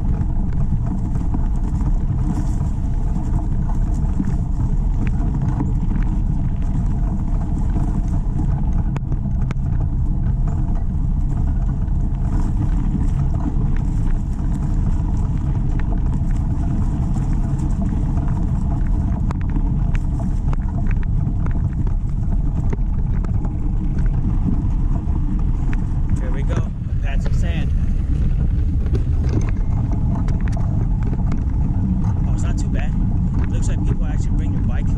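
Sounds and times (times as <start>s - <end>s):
bicycle riding on dirt trail: 0.0s - 34.9s
bike clicks and rattles: 0.0s - 34.9s
wind buffeting microphone: 0.0s - 34.9s.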